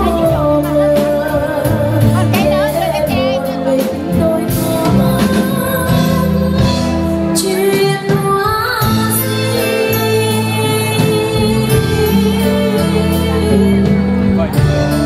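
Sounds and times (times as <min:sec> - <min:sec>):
band with drum kit: 0:00.0 - 0:15.0
woman singing into microphone: 0:00.0 - 0:15.0.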